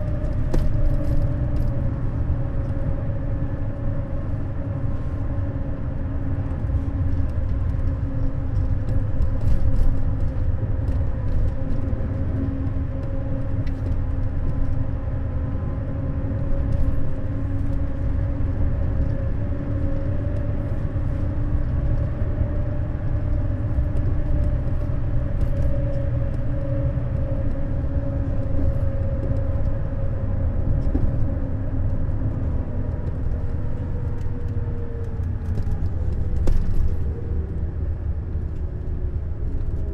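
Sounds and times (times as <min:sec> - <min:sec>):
coach engine low rumble: 0:00.0 - 0:39.9
drivetrain whine: 0:00.0 - 0:39.9.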